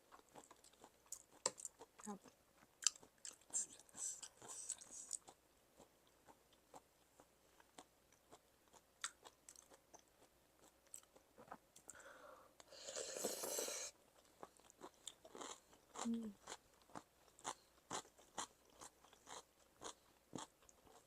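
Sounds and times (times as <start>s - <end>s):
crunchy chewing: 0.0s - 12.0s, 14.1s - 21.0s.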